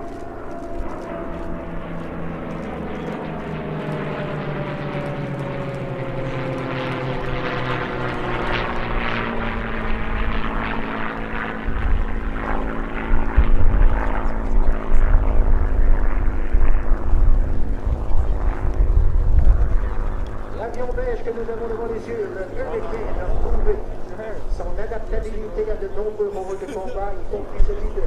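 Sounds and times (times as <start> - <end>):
propeller planes flying past: 0.0 - 28.0.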